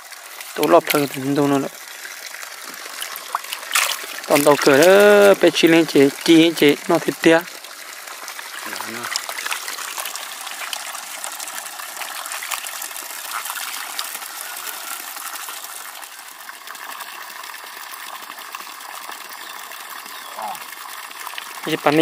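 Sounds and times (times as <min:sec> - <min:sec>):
water rushing and splashing: 0:00.0 - 0:22.0.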